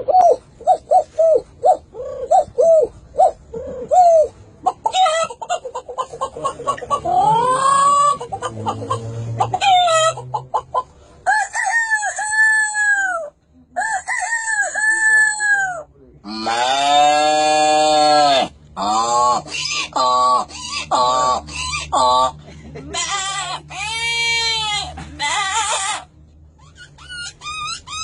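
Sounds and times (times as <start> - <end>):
man imitating chickens: 1.0 - 10.4, 11.5 - 26.1.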